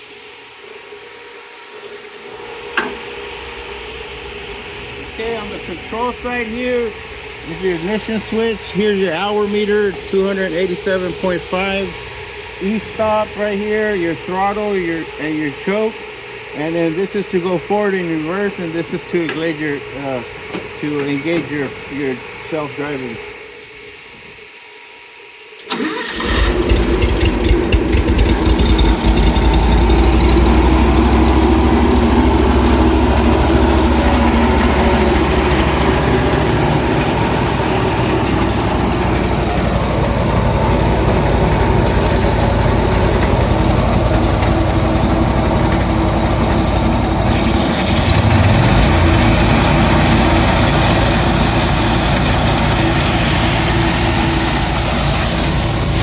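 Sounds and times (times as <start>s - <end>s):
concrete saw engine running: 0.0s - 23.3s, 25.7s - 56.0s.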